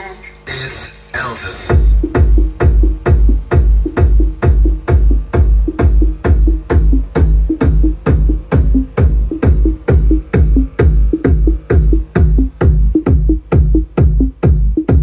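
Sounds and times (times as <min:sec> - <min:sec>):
heavy bass: 0:00.0 - 0:15.0
loud electronic techno: 0:00.1 - 0:15.0
drum machine kick: 0:01.6 - 0:15.0.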